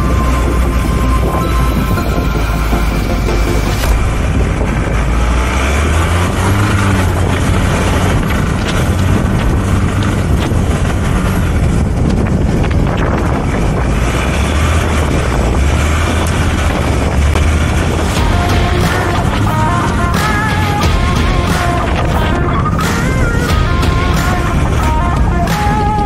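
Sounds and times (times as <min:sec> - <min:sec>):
vehicle engine running: 0:00.0 - 0:26.0
wind noise on microphone: 0:00.0 - 0:26.0.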